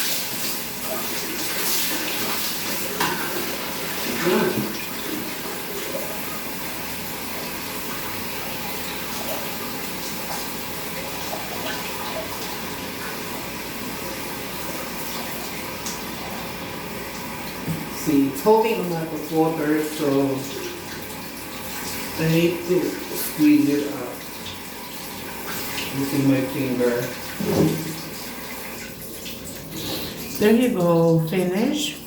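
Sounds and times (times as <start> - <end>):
shower water spraying on fur: 0.0 - 31.0.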